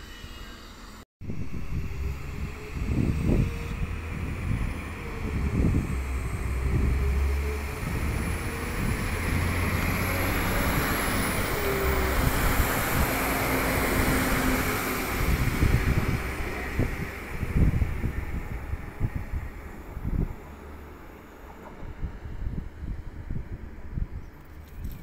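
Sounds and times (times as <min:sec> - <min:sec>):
train engine hum: 0:00.0 - 0:24.7
train wheel rumble: 0:01.3 - 0:24.6.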